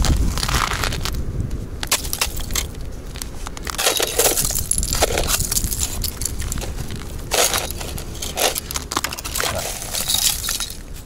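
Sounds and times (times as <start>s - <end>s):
snow and ice crunching: 0.0s - 11.0s.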